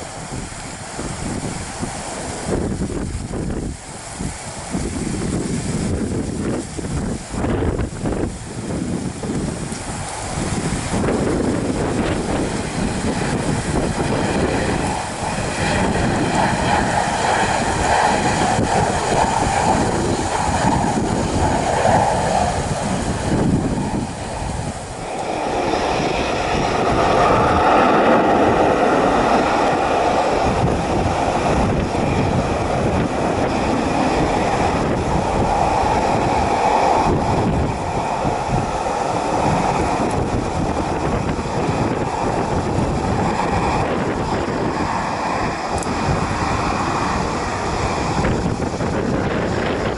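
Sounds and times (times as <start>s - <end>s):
jet engine noise: 0.0s - 49.9s
wind on microphone: 0.0s - 49.9s.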